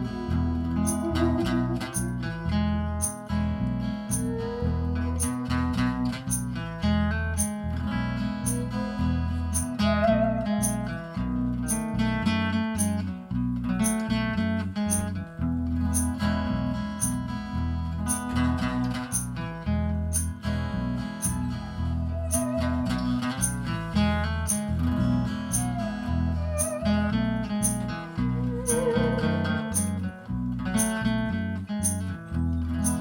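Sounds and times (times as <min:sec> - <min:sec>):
high tick keeping beat: 0:00.0 - 0:06.6, 0:07.4 - 0:12.1, 0:13.8 - 0:14.2, 0:14.9 - 0:15.2, 0:15.9 - 0:19.4, 0:20.0 - 0:30.2, 0:30.8 - 0:31.2, 0:31.8 - 0:32.2, 0:32.8 - 0:33.0
bass line: 0:00.0 - 0:33.0
guitar: 0:00.0 - 0:33.0.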